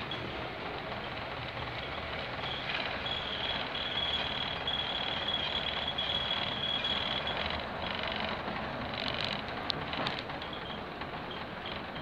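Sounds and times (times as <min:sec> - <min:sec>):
train engine and wheels on rails: 0:00.0 - 0:12.0.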